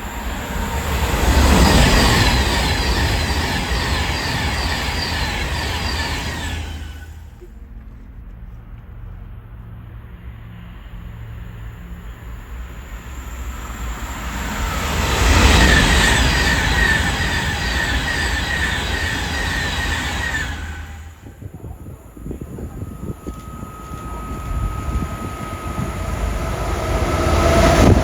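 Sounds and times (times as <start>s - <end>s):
high-pitched wheel ringing: 0.0s - 7.2s, 12.6s - 28.0s
train rumbling past: 0.0s - 28.0s.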